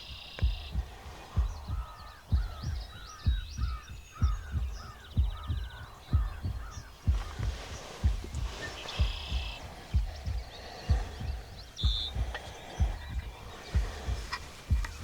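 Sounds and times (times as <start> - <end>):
crow cawing: 0.0 - 15.0
low thumps: 0.0 - 15.0.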